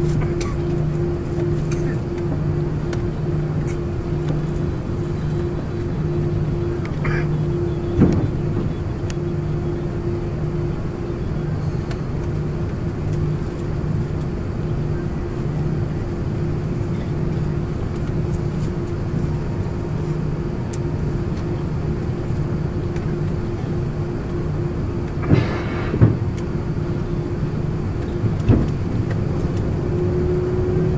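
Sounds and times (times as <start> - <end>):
aircraft cabin engine hum: 0.0 - 30.9.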